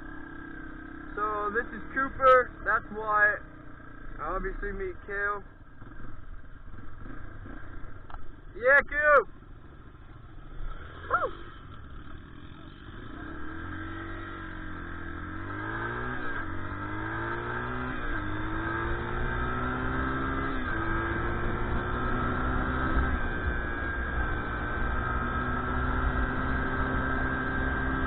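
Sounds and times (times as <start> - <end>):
dirt bike engine accelerating: 0.0 - 28.0.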